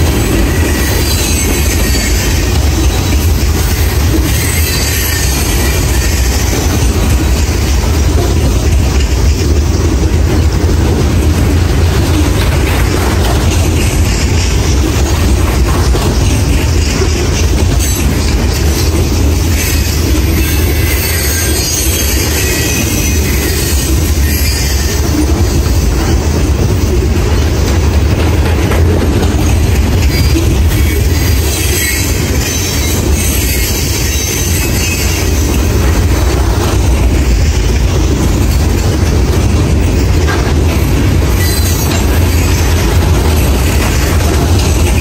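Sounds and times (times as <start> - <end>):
train wheels rumbling and rattling: 0.0 - 45.0.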